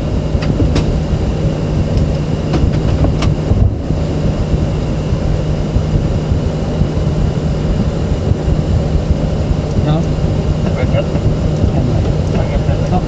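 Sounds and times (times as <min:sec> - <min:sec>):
cockpit air-conditioning hum: 0:00.0 - 0:13.0.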